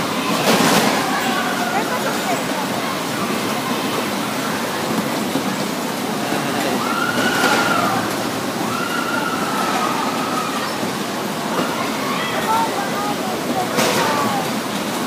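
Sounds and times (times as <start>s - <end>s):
bumper cars rolling rumble: 0.0s - 15.0s.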